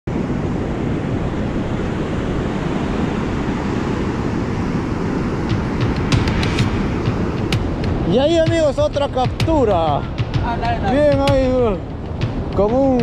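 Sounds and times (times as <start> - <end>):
ocean surf breaking on beach: 0.1 - 13.0
wind buffeting microphone: 0.1 - 13.0.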